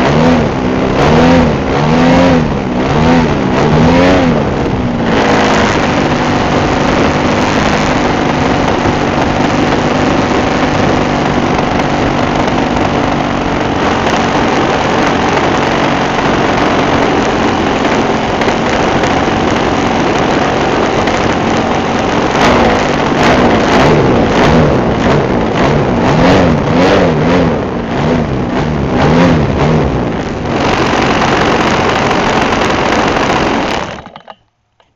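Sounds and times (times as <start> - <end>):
wind rush: 0.0 - 34.0
model airplane engine: 0.0 - 34.9.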